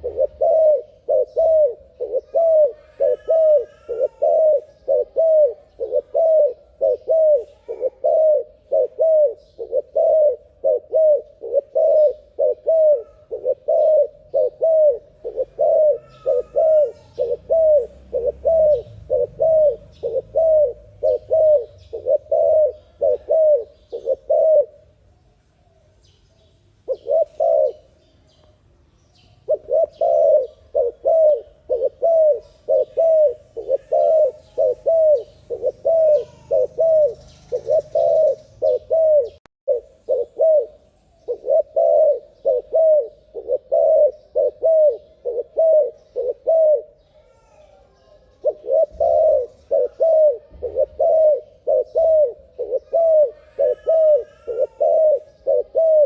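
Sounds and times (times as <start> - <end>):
dove cooing: 0.0 - 25.0, 26.8 - 28.0, 29.2 - 56.0
small birds chirping: 0.0 - 56.0.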